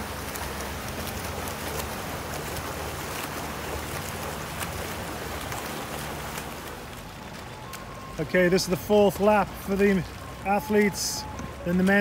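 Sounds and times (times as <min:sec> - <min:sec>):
low motor hum: 0:00.0 - 0:12.0
swimming strokes splashing: 0:00.0 - 0:12.0
wash of moving water: 0:00.0 - 0:12.0.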